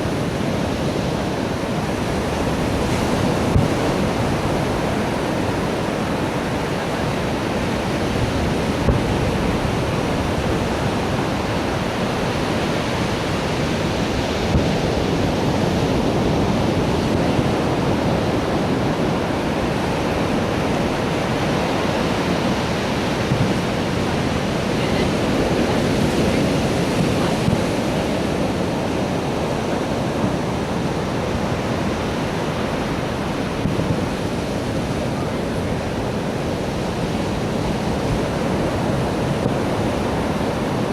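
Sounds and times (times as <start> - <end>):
steady rushing noise: 0.0 - 40.9.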